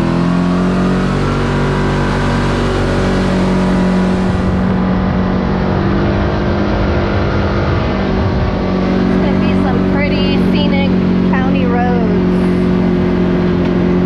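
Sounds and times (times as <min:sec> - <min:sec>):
engine running at cruise: 0:00.0 - 0:14.0
wind: 0:00.0 - 0:14.0.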